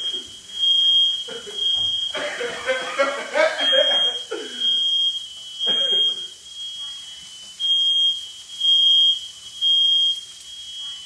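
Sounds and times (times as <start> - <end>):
smoke alarm beeping: 0.0 - 11.0.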